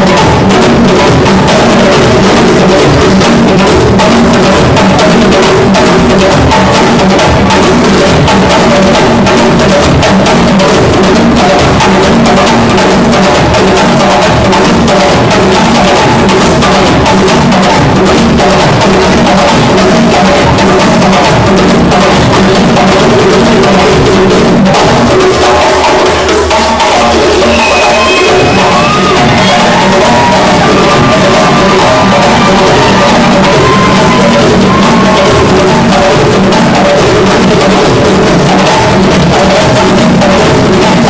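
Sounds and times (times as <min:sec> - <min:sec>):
djembe drum ensemble playing: 0:00.0 - 0:41.0.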